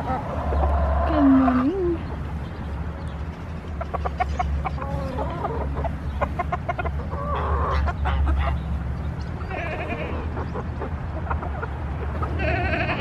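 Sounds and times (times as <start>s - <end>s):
hens clucking: 0.0s - 2.3s, 3.6s - 13.0s.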